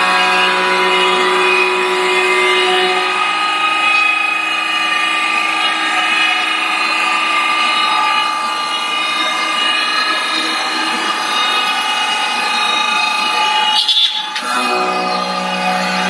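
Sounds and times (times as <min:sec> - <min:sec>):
wood lathe whining: 0:00.0 - 0:16.0.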